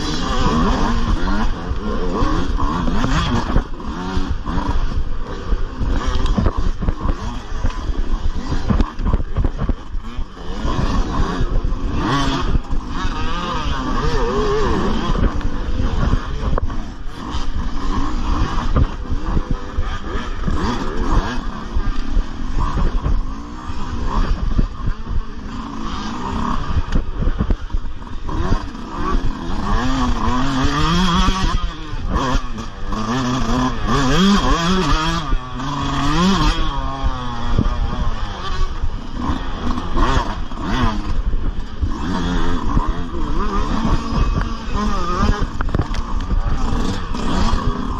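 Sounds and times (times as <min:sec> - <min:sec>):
dirt bike engine revving: 0:00.0 - 0:47.9
other dirt bikes running: 0:00.0 - 0:47.9.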